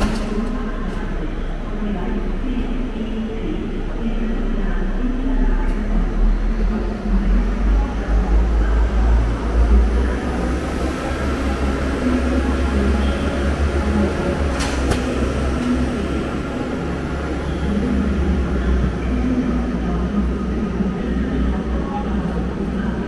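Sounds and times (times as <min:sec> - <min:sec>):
train low rumble: 0:00.0 - 0:23.0.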